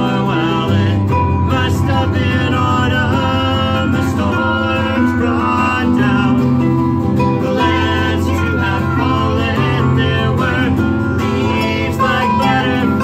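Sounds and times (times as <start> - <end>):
acoustic guitar playing: 0.0 - 13.0
harp playing: 0.0 - 13.0
held low bass: 0.0 - 13.0.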